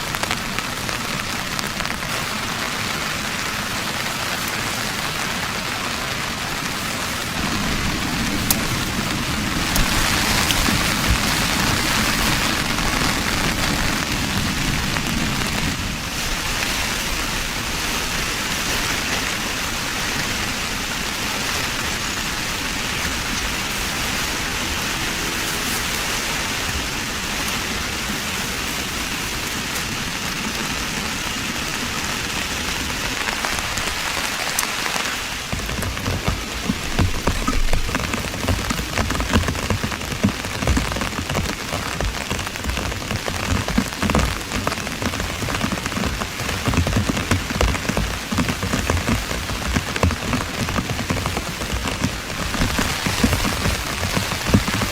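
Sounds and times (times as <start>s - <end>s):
heavy rain on a tent roof: 0.0s - 54.9s.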